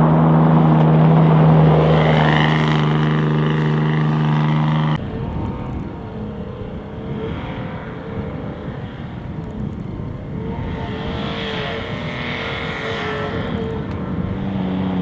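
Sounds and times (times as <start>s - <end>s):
engine exhaust revving: 0.0s - 15.0s.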